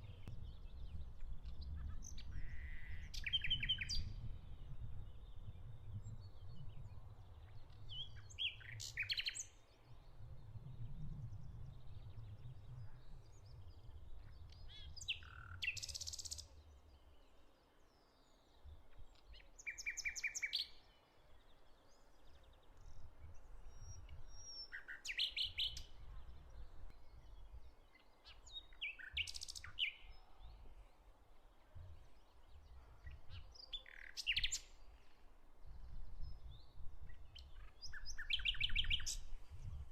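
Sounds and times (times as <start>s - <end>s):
faint low wind rumble: 0.0s - 39.9s
songbirds singing and chirping: 0.0s - 39.9s.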